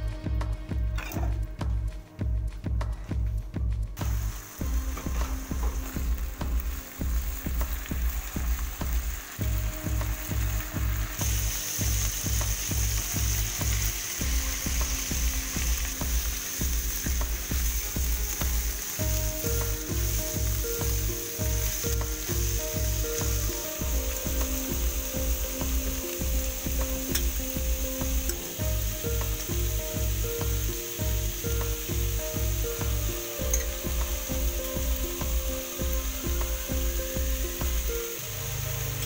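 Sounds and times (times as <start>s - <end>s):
background music with beat: 0.0s - 39.0s
meat sizzling in a wok: 4.0s - 39.0s.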